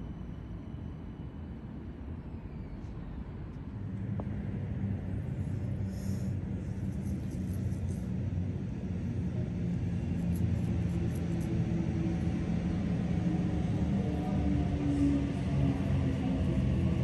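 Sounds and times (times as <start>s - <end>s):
train rumble and motor hum: 0.0s - 17.0s.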